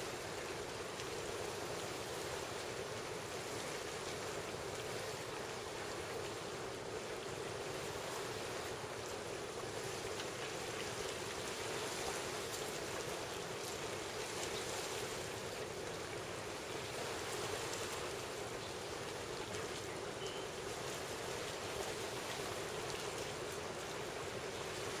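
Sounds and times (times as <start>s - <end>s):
faint wave splashes: 0.0s - 25.0s.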